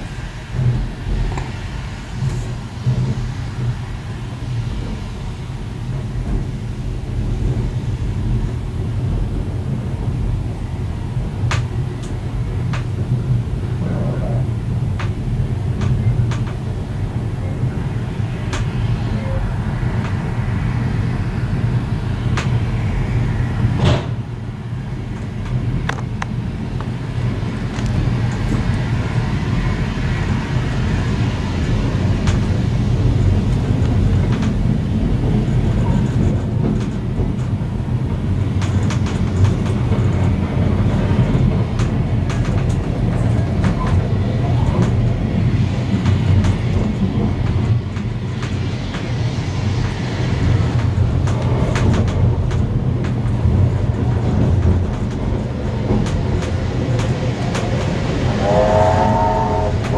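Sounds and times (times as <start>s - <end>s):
train rumbling: 0.0s - 59.9s
wheels clicking over rails: 5.9s - 20.8s, 21.6s - 59.9s.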